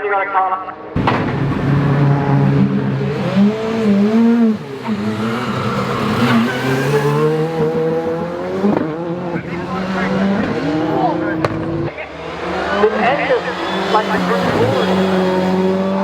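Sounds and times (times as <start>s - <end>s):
rally car engine revving: 0.9s - 16.0s.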